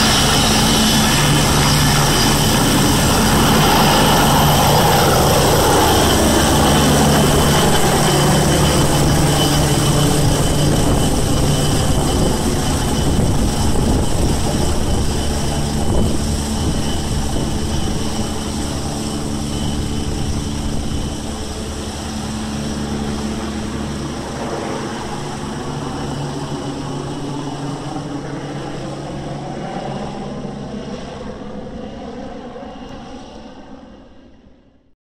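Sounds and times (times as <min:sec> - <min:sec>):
helicopter flying overhead: 0:00.0 - 0:34.9.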